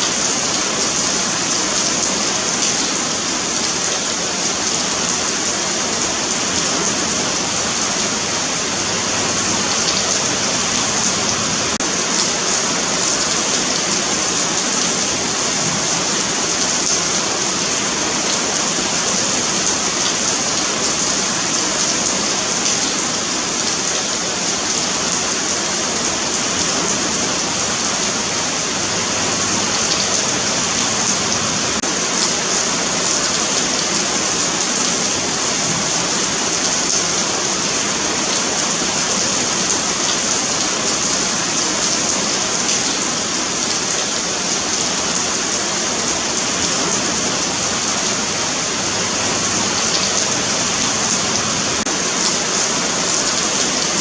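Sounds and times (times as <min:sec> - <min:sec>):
rain on pavement: 0:00.0 - 0:54.0.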